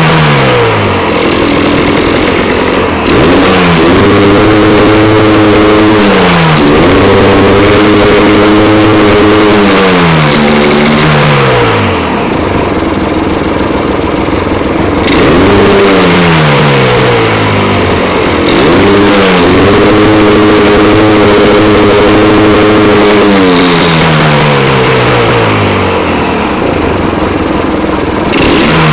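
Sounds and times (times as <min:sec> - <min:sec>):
vehicle engine revving: 0:00.0 - 0:28.9.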